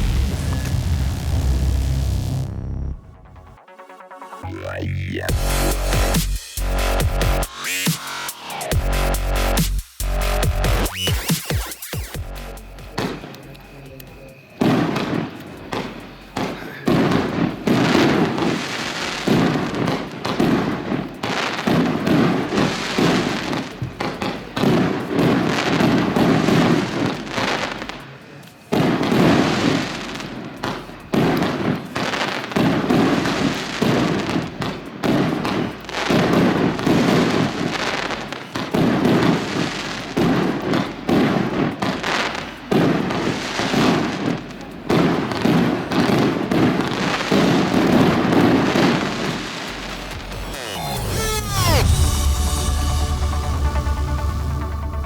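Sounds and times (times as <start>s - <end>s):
fireworks launching and bursting: 0.0s - 55.0s.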